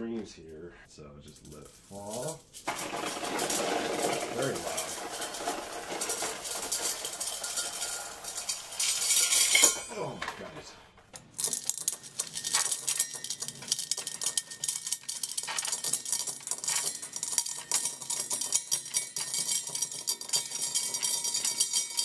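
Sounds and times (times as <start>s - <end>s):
metal bead chain rattling: 1.3s - 10.2s, 11.1s - 22.0s.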